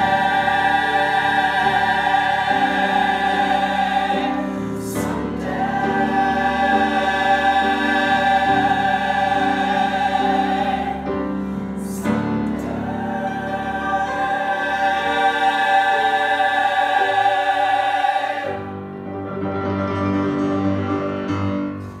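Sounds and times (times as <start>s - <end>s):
mixed choir singing: 0.0s - 19.0s.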